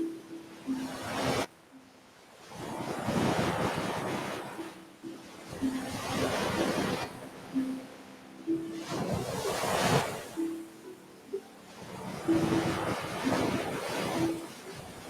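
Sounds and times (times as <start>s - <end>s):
ocean surf breaking on a beach: 0.0s - 15.0s.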